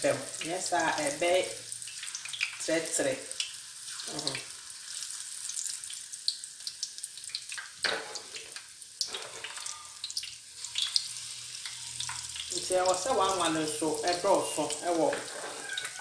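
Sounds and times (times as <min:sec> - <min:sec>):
batter deep-frying in oil: 0:00.0 - 0:16.0.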